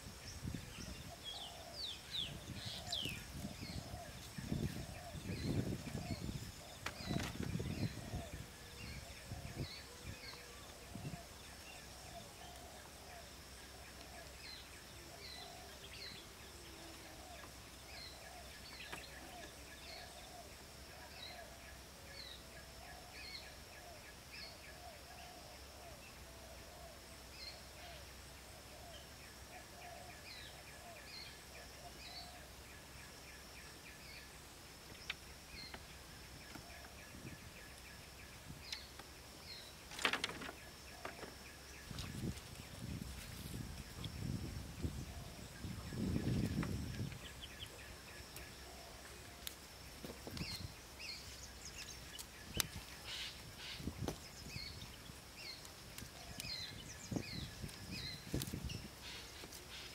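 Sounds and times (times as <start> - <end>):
birds chirping: 0.0 - 21.6, 22.2 - 59.9.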